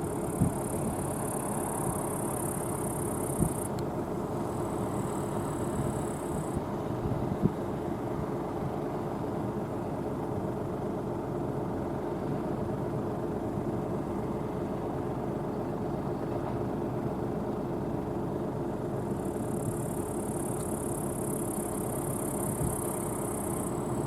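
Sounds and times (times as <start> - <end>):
combine harvester running: 0.0 - 7.0, 7.6 - 24.0.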